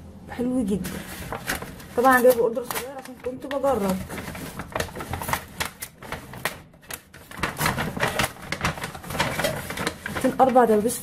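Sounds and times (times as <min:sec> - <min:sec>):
paper bag crinkling and rustling: 0:00.8 - 0:11.0.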